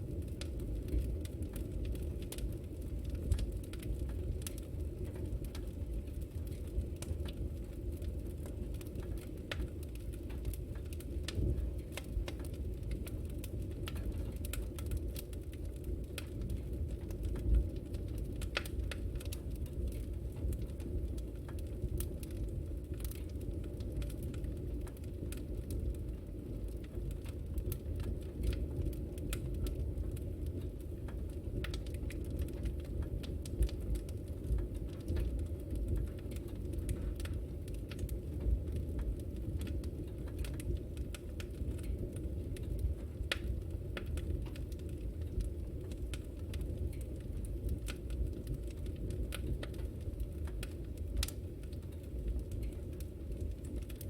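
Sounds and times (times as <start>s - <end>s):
fire crackles and pops: 0.0s - 54.0s
low rumble of flames: 0.0s - 54.0s.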